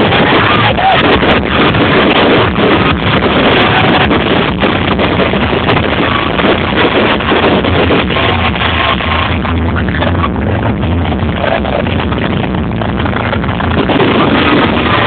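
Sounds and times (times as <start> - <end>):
fireworks bursting and crackling: 0.0 - 15.0
loud rumble: 0.0 - 15.0.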